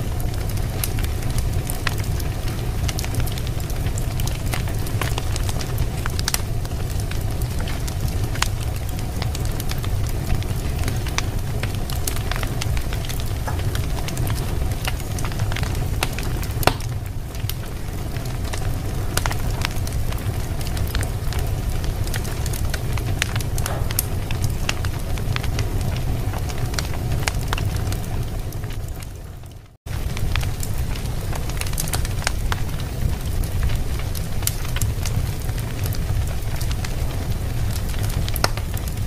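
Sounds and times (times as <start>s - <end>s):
low rumble: 0.0s - 31.6s
wood fire crackling and popping: 0.0s - 39.0s.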